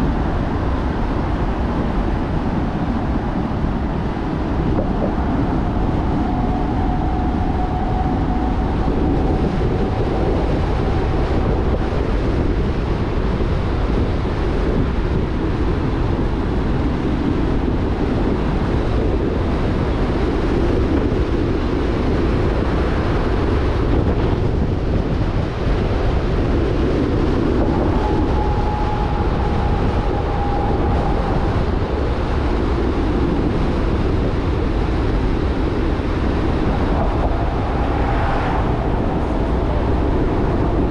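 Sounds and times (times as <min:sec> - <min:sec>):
faint whine: 0:00.0 - 0:40.9
low engine rumble: 0:00.0 - 0:40.9
road and wind noise: 0:00.0 - 0:40.9.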